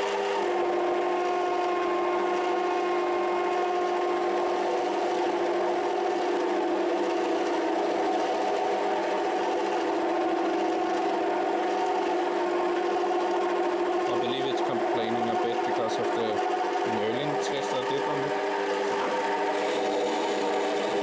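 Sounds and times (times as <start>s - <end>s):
lathe motor whining: 0.0s - 21.0s.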